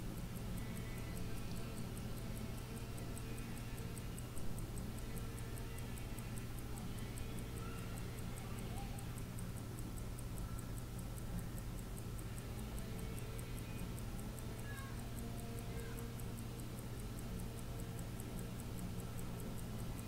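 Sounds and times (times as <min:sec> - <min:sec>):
wristwatch ticking: 0:00.0 - 0:20.0.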